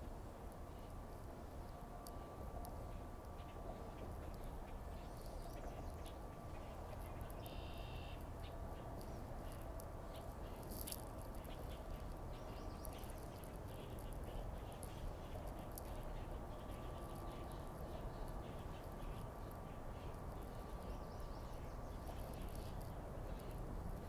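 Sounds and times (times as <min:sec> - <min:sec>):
faint ticks: 0:00.5 - 0:21.0.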